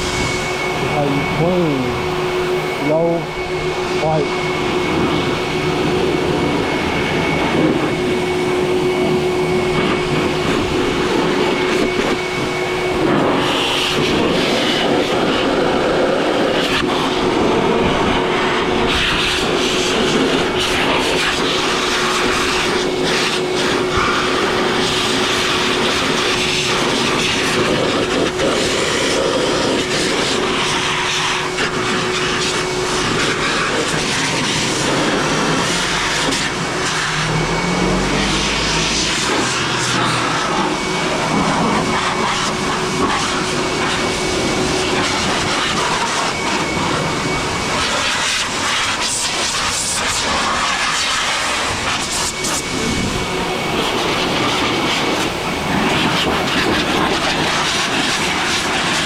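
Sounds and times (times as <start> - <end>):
air dryer blower rushing: 0.0 - 59.0.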